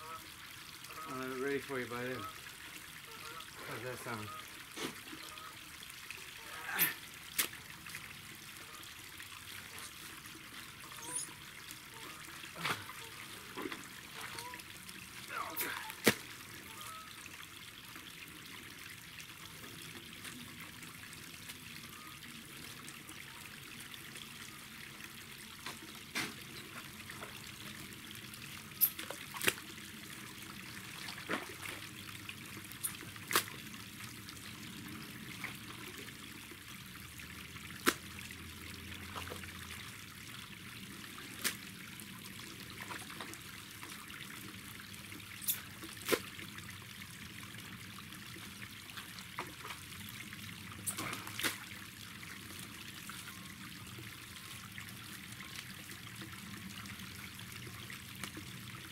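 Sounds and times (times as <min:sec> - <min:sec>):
water trickling: 0:00.0 - 0:58.9.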